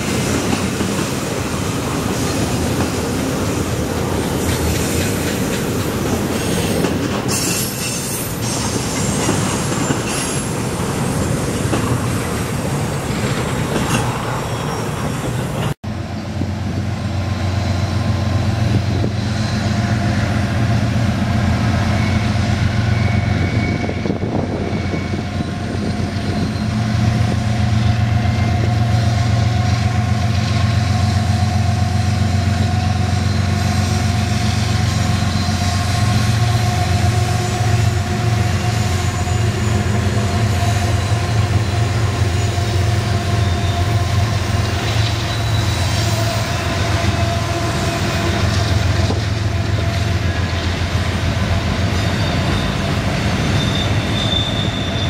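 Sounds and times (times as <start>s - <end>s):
train wheels clattering on rail: 0.0s - 16.8s, 18.0s - 55.0s
diesel locomotive hum: 0.0s - 55.0s.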